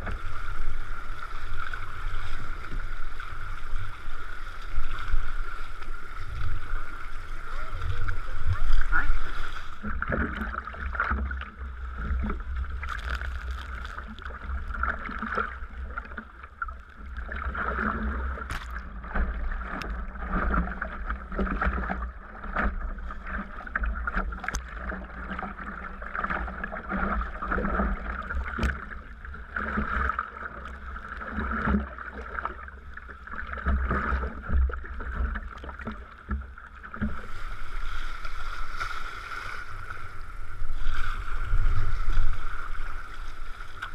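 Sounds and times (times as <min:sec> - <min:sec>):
paddle splashing water: 0:00.0 - 0:43.9.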